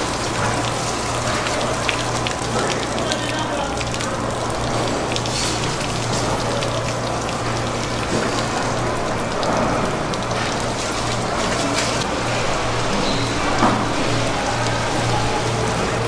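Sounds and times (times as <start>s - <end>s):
rain-like hiss: 0.0s - 16.0s.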